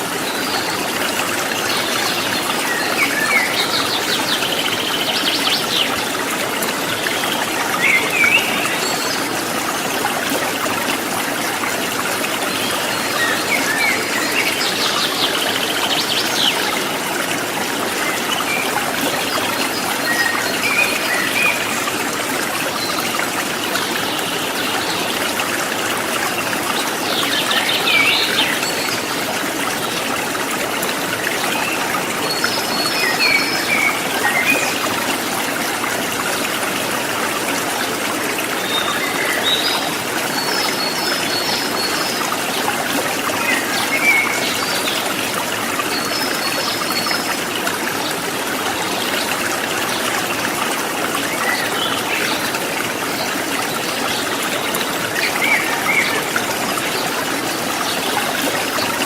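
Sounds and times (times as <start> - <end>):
water running over stones: 0.0 - 59.0.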